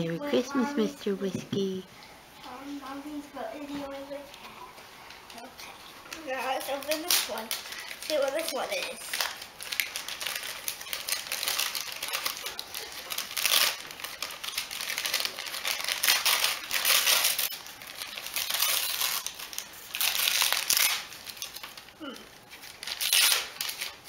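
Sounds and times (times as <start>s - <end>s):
wrapping paper crinkling: 3.6s - 24.0s.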